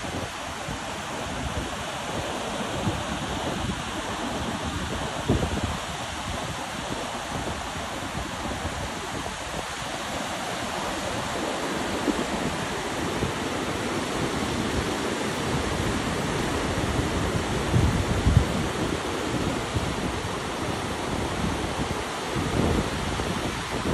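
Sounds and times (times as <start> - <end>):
surf breaking on beach: 0.0 - 23.9.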